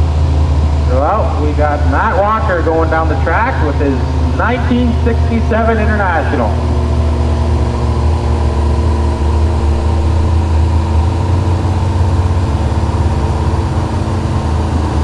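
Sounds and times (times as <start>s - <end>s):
pickup engine running steadily: 0.0s - 15.0s.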